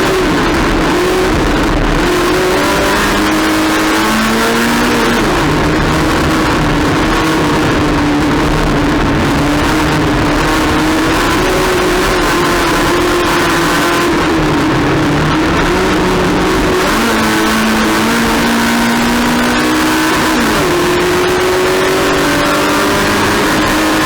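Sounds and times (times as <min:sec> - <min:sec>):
race car engine running hard: 0:00.0 - 0:24.0
wind and road noise: 0:00.0 - 0:24.0.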